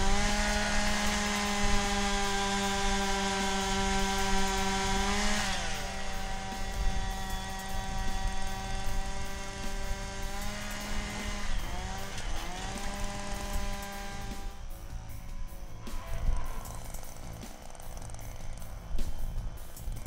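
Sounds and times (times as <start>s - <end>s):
ice auger engine running: 0.0s - 20.0s.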